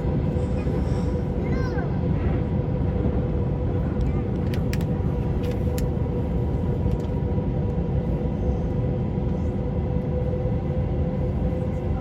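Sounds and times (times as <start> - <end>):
airliner cabin rumble: 0.0 - 12.0
constant hum: 0.0 - 12.0.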